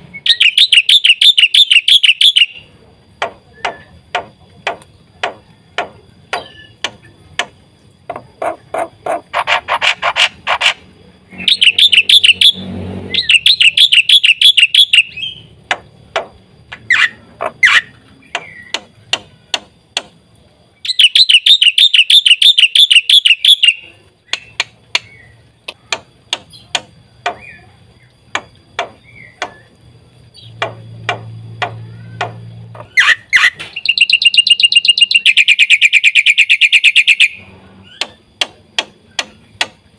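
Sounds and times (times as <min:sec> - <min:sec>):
bird calls and whistles: 0:00.1 - 0:02.7, 0:03.5 - 0:05.5, 0:06.2 - 0:07.2, 0:08.2 - 0:15.6, 0:16.8 - 0:19.7, 0:20.8 - 0:39.8
bird chattering trills: 0:00.2 - 0:20.1, 0:20.8 - 0:39.8.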